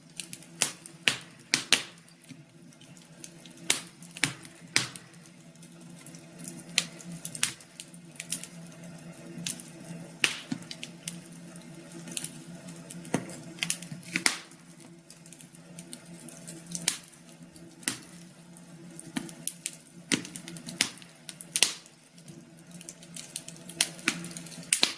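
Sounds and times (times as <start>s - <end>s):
faint steady hum: 0.0s - 24.9s
wood fire crackling: 0.0s - 24.9s.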